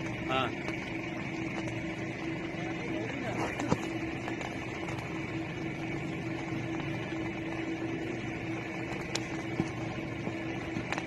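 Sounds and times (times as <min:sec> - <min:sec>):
constant hum: 0:00.0 - 0:11.0
fire burning with rushing noise: 0:00.0 - 0:11.0.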